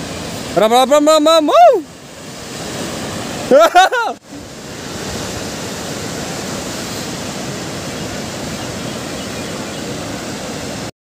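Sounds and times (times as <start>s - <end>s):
fast-flowing river water: 0.0s - 10.9s.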